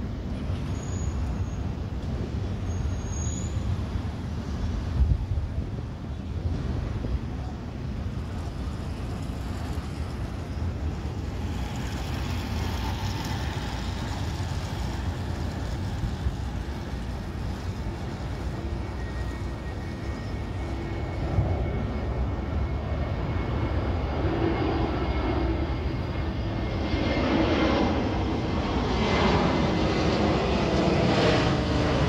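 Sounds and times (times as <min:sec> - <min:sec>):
faint steady whine: 0:00.0 - 0:32.0
jet engines rushing: 0:00.0 - 0:32.0.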